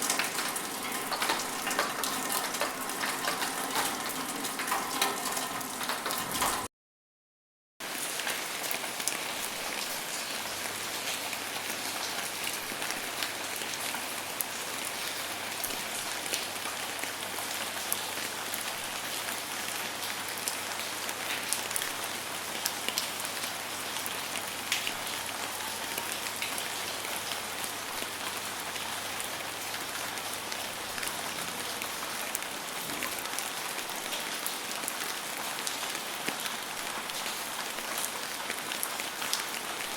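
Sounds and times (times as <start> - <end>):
rain falling on a surface: 0.0 - 6.7, 7.8 - 39.9.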